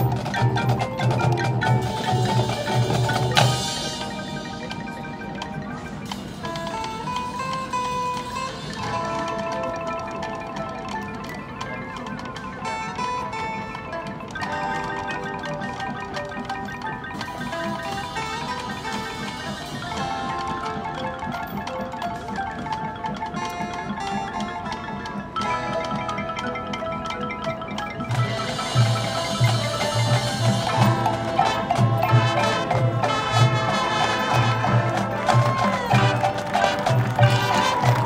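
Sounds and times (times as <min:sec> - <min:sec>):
marching band playing: 0:00.0 - 0:38.0
marimbas and vibraphones: 0:00.0 - 0:38.0.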